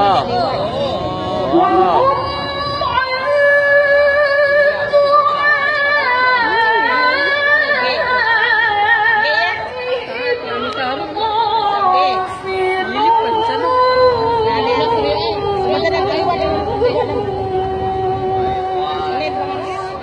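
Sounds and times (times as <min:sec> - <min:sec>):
woman chanting melodically: 0:00.0 - 0:20.0.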